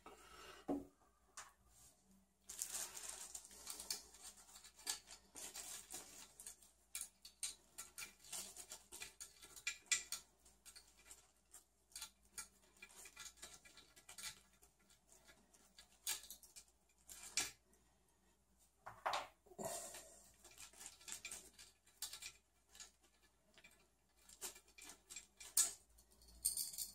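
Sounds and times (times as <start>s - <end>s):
small clicks and scrapes of handling: 1.4s - 17.9s, 19.9s - 26.9s.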